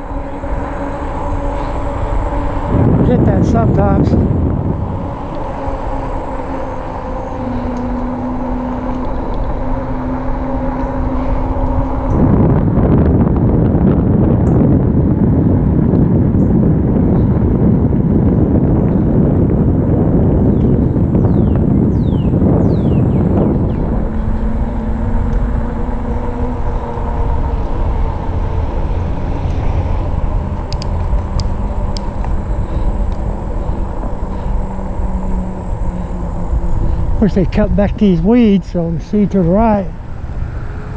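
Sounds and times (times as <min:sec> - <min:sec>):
electric bike motor and tire hum: 0:00.0 - 0:40.9
wind rumbling on microphone: 0:00.0 - 0:40.9.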